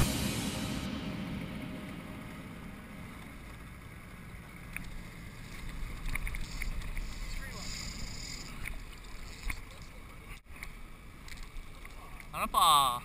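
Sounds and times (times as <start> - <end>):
boat engine rumble: 0.0 - 12.4.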